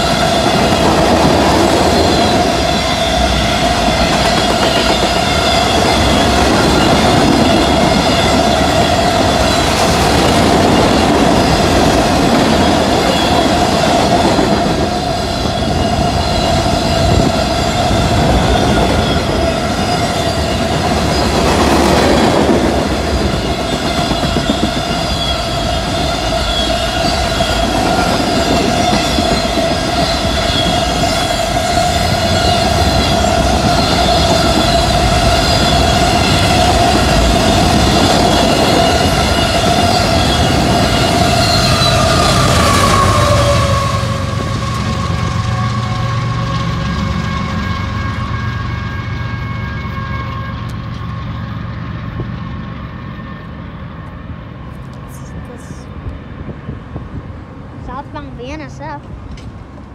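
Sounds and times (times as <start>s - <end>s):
wheels squealing on rail: 0.0s - 56.8s
freight train cars rumbling: 0.0s - 59.9s.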